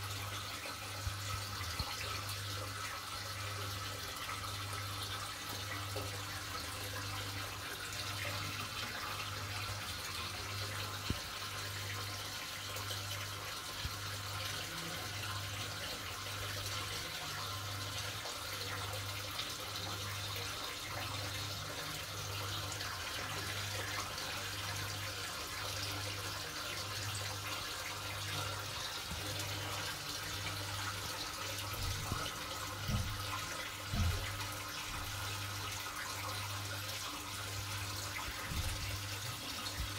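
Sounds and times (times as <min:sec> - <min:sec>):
aquarium water circulating: 0:00.0 - 0:39.9.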